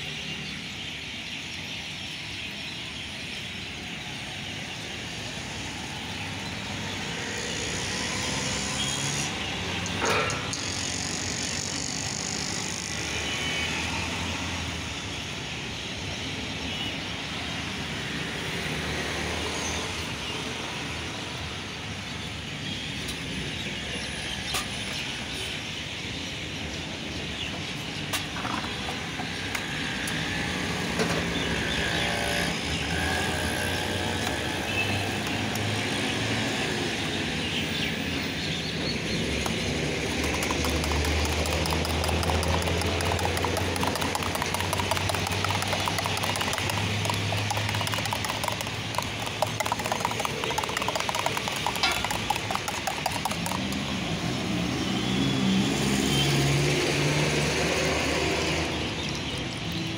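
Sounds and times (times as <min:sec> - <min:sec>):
traffic going by: 0:03.7 - 0:59.9.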